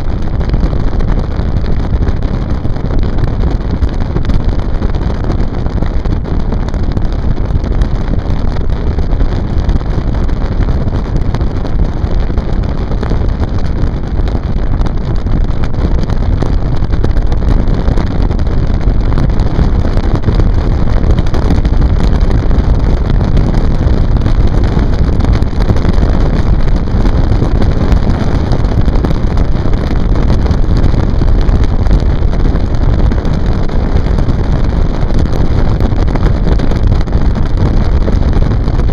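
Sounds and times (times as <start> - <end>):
boat engine rumble: 0.0 - 38.8
wind rushing over microphone: 0.0 - 38.9.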